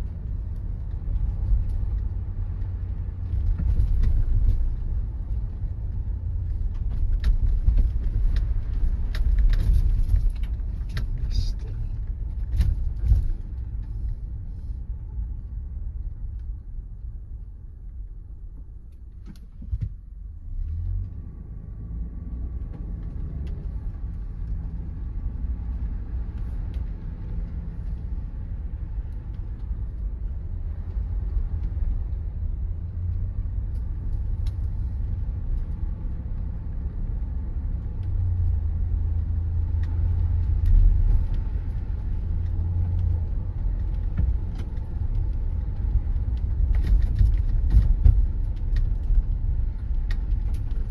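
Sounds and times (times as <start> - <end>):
car engine rumble: 0.0 - 50.9
road noise: 0.0 - 50.9.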